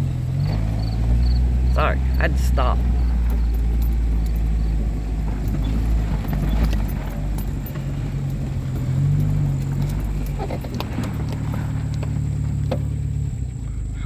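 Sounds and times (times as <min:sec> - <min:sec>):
vehicle engine running: 0:00.0 - 0:14.0
light rattles: 0:00.2 - 0:13.9.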